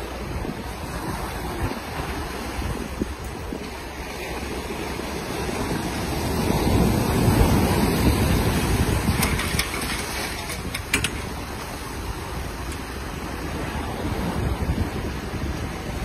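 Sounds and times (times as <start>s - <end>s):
surf washing around hull: 0.0s - 16.0s.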